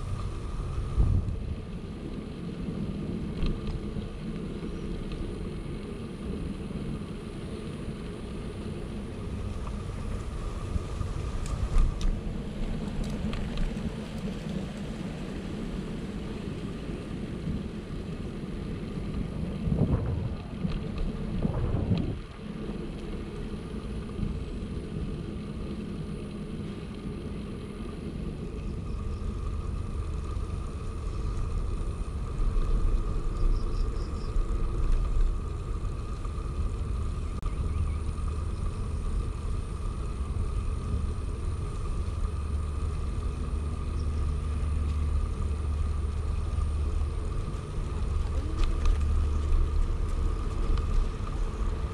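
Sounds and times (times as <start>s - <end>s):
bicycle tyres and wind rumble: 0.0s - 51.9s
faint steady whine: 0.0s - 51.9s.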